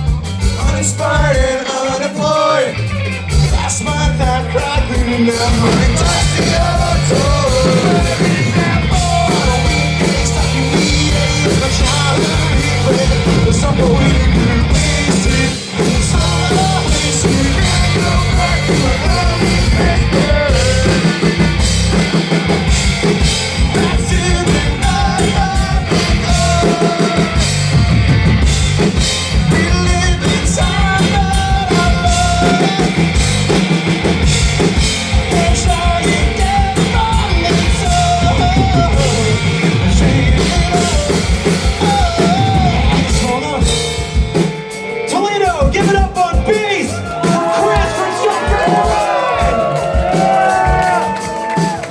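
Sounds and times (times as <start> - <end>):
person singing: 0.0 - 22.1, 23.1 - 28.4, 29.0 - 33.2, 34.7 - 44.2, 45.1 - 51.9
live rock band playing: 0.0 - 51.9.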